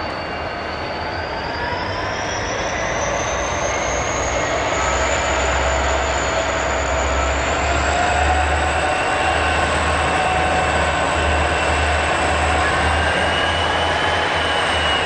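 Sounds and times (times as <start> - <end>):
diesel locomotive running: 0.0 - 15.0
faint rising whine: 0.0 - 15.0.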